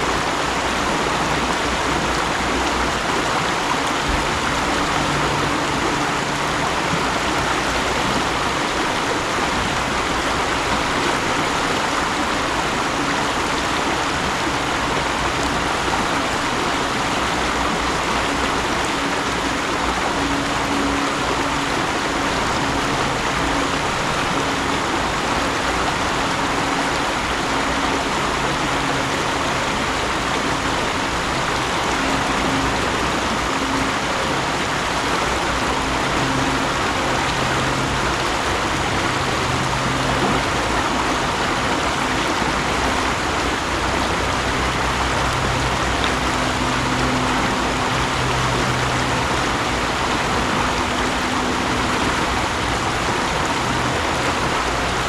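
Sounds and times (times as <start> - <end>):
stream rushing and gurgling: 0.0 - 55.0.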